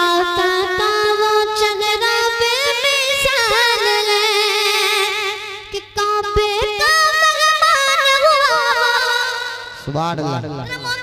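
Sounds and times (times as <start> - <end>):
boy singing unaccompanied: 0.0 - 11.0.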